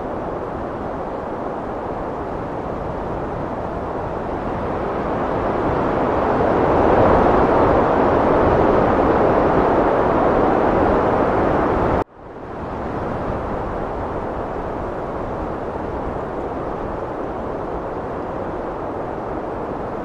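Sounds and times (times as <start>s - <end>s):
heavy wind rushing: 0.0s - 20.0s.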